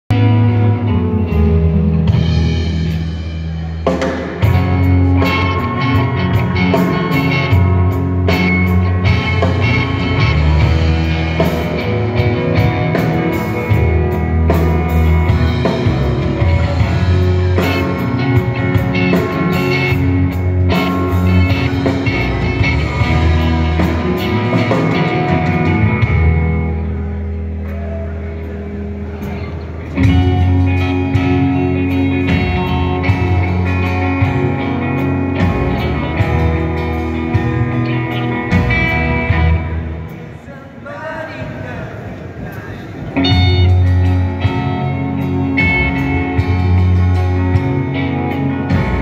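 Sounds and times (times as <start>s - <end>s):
drum kit: 0.1s - 40.4s, 41.4s - 49.0s
electric guitars: 0.1s - 49.0s.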